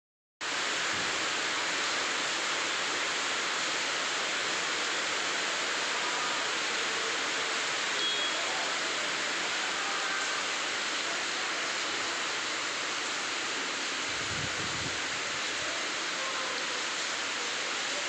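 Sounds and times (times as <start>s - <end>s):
heavy rain falling: 0.4s - 18.0s.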